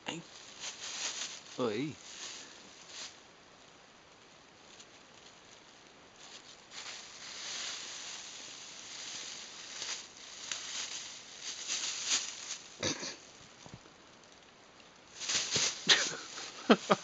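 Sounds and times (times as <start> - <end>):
plastic bag rustling and crinkling: 0.2 - 3.2, 4.6 - 13.8, 15.0 - 17.0.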